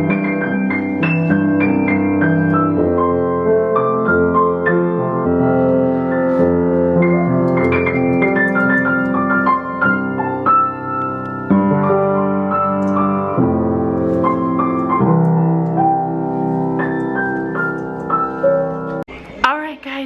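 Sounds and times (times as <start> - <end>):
slow piano melody: 0.0 - 19.1.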